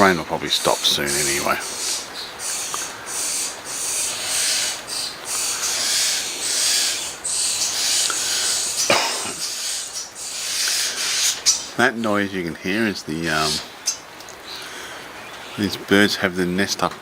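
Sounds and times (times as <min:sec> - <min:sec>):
birds hissing rasping calls: 0:00.0 - 0:16.7
steady rain: 0:00.0 - 0:17.0.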